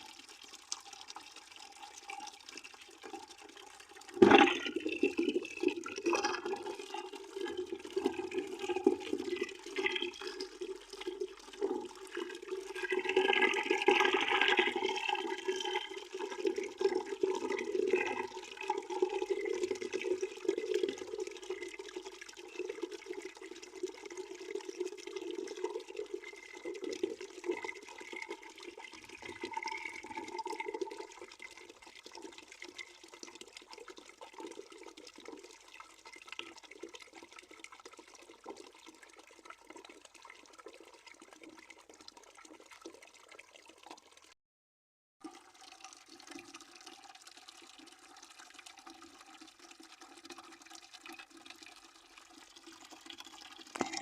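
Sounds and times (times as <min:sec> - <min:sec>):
tap water running into a bucket: 0:00.0 - 0:44.4, 0:45.2 - 0:54.0.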